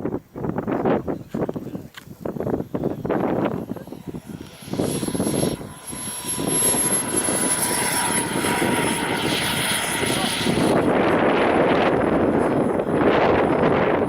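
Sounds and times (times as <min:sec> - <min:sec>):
wind buffeting microphone: 0:00.0 - 0:14.0
model jet engine whining: 0:00.4 - 0:14.0.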